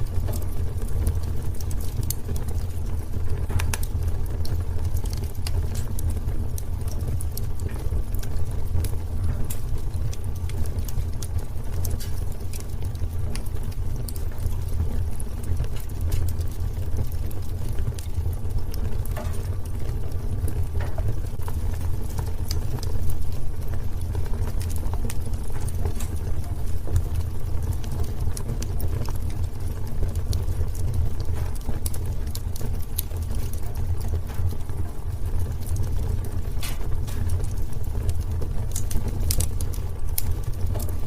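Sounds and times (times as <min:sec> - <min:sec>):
low fire rumble: 0:00.0 - 0:41.0
wood fire crackling and popping: 0:00.0 - 0:41.0.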